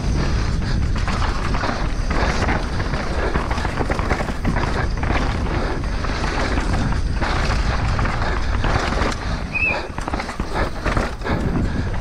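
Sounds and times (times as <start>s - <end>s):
bike rattling and knocking: 0.0s - 12.0s
tyres crunching and skidding on dirt: 0.0s - 12.0s
wind rumble on microphone: 0.0s - 12.0s.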